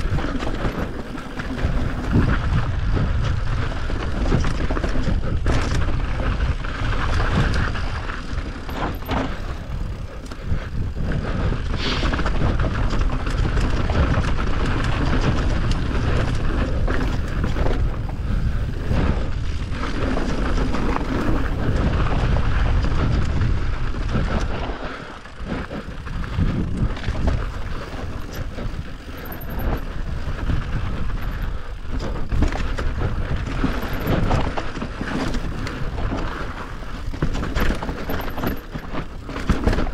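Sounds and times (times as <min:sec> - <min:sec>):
dirt bike engine: 0:00.0 - 0:39.9
knocks and rattles from terrain: 0:00.0 - 0:39.9.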